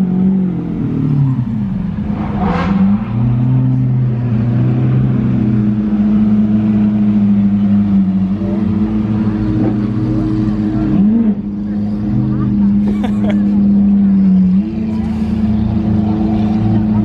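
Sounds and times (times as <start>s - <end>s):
car engines running at low speed: 0.0s - 17.0s.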